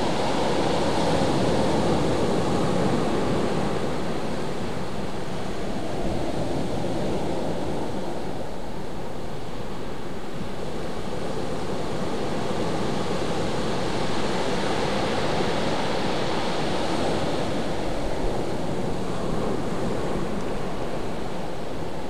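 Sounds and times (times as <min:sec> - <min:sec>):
waves washing on shore: 0:00.0 - 0:22.0.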